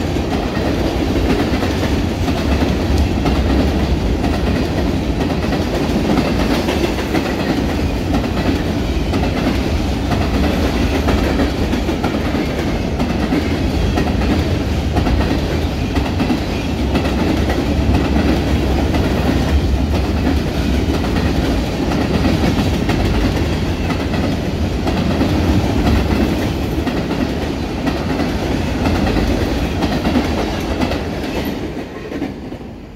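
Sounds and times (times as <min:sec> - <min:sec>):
freight train wheels clattering on rails: 0:00.0 - 0:32.9.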